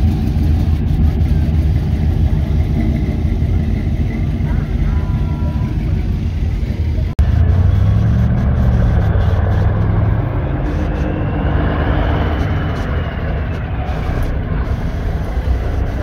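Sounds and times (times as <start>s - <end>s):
traffic rolling past: 0.0s - 16.0s
truck diesel engine rumbling: 0.0s - 16.0s.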